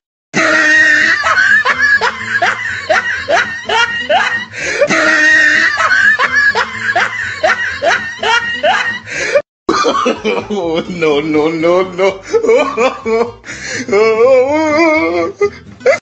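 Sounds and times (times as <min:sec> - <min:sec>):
man laughing: 0:00.4 - 0:16.0.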